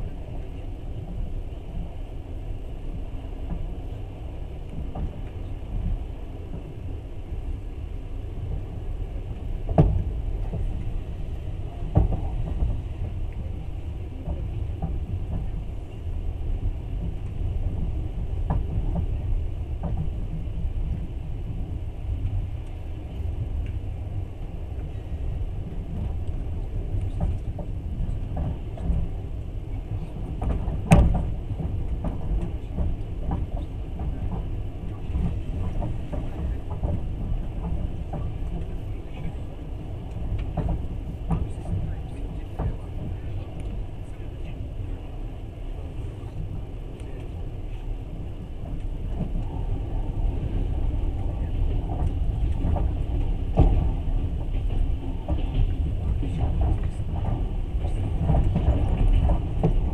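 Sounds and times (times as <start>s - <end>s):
train rumble from inside carriage: 0.0s - 59.9s.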